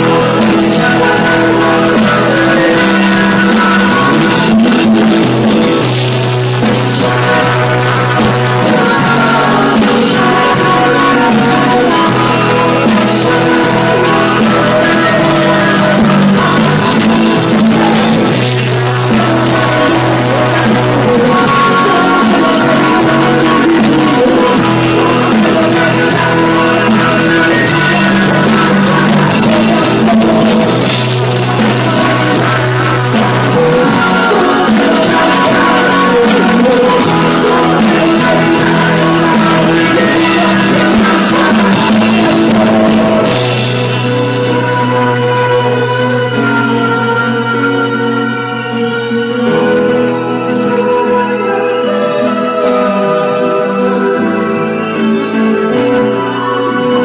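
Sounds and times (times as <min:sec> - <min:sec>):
bass line: 0:00.0 - 0:57.0
drums: 0:00.0 - 0:57.0
electric guitar: 0:00.0 - 0:57.0.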